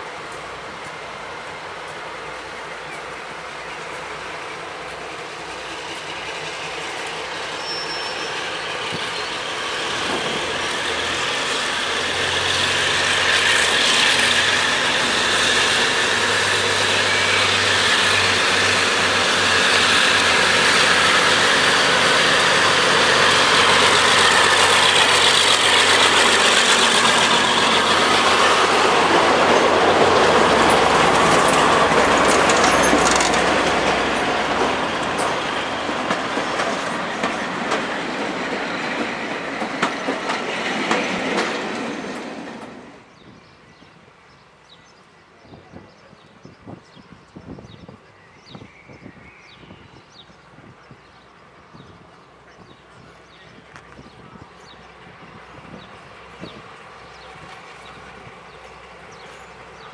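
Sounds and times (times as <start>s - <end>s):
diesel locomotive engine: 0.0s - 59.9s
train coaches rolling by: 0.0s - 59.9s.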